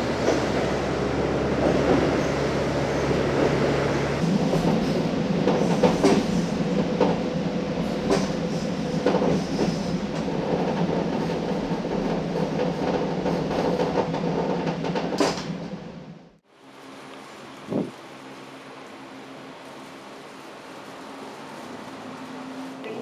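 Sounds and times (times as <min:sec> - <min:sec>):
diesel railcar rumbling: 0:00.0 - 0:23.0.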